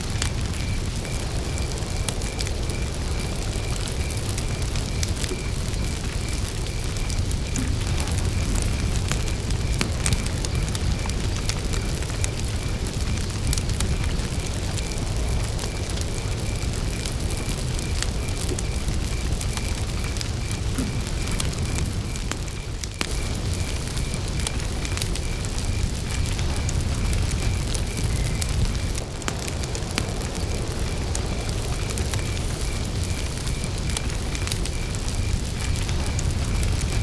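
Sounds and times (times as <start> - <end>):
campfire crackling: 0.0 - 37.0
cricket chirping: 0.0 - 37.0.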